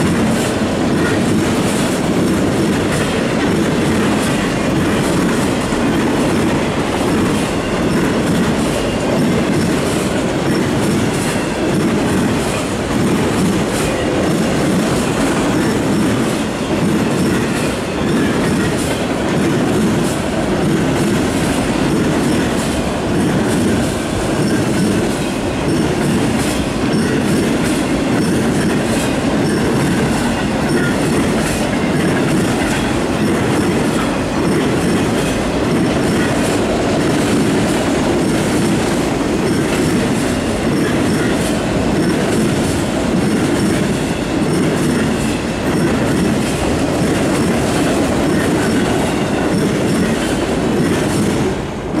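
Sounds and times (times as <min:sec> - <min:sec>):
clickety-clack over rail joints: 0:00.0 - 0:52.0
train wheels rumbling on rail: 0:00.0 - 0:52.0.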